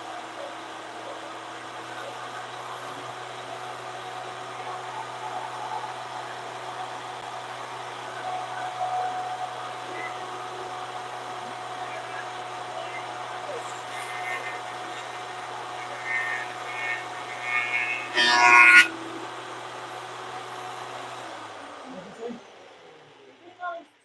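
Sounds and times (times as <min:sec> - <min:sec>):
thickness planer running: 0:00.0 - 0:23.8.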